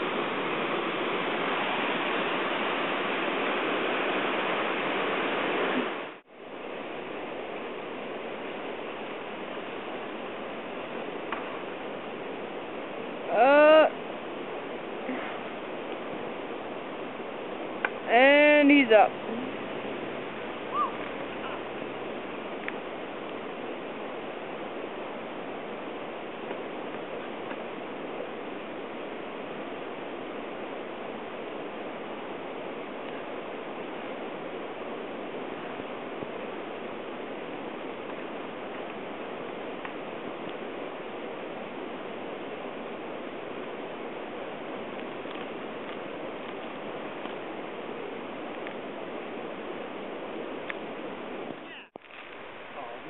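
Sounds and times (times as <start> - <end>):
rushing river water: 0.0 - 53.0.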